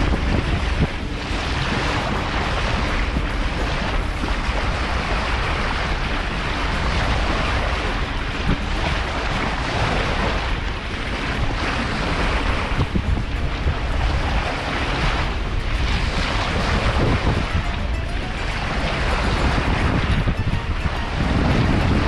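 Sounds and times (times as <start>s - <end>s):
sea water rushing: 0.0s - 22.0s
wind buffeting microphone: 0.0s - 22.0s.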